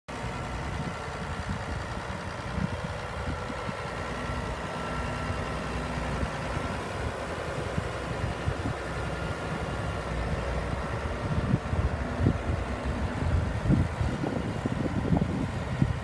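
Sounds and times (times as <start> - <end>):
tractor engine idling: 0.1 - 16.0.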